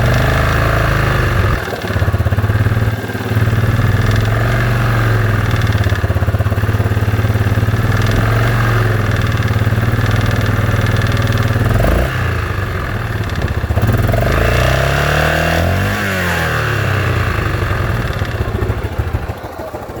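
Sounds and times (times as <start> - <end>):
four-stroke engine running: 0.0 - 20.0.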